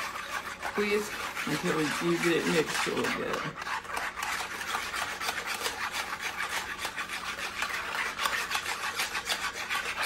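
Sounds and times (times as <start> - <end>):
whisk scraping plastic bowl: 0.0 - 10.0.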